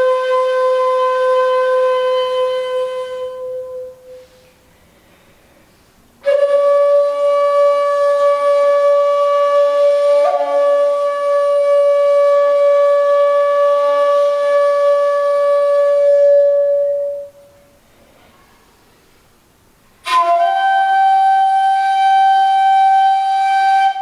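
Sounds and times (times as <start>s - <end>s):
bamboo flute long note: 0.0s - 4.6s, 6.2s - 17.7s, 20.0s - 24.0s.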